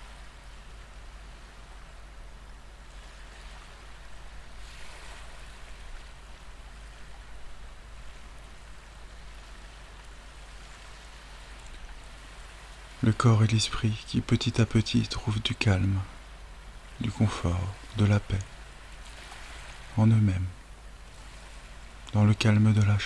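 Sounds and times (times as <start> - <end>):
ocean waves washing on shore: 0.0 - 23.0.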